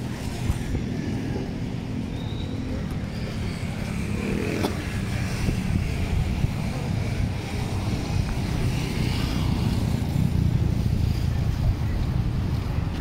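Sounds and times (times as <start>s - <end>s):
car engines: 0.0s - 13.0s
motorcycle engines: 0.0s - 13.0s.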